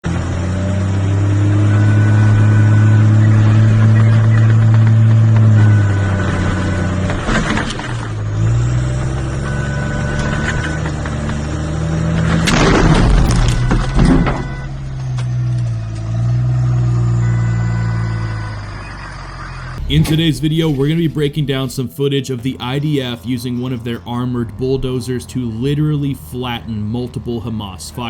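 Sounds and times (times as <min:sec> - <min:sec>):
heavy vehicle engine running: 0:00.0 - 0:28.0.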